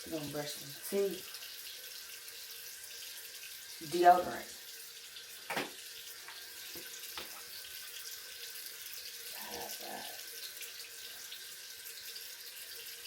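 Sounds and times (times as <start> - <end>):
sink tap running: 0.0 - 13.0.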